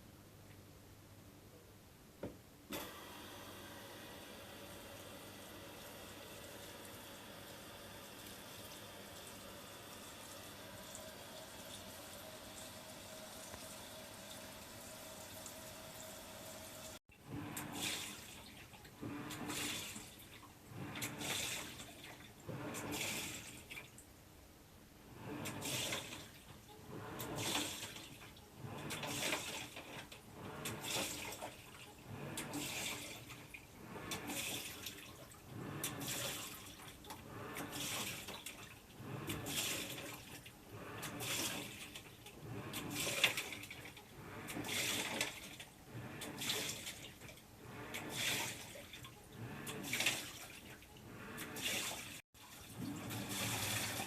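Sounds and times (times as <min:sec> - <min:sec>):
water sloshing in washing machine: 0:02.7 - 0:24.2, 0:25.0 - 0:54.0.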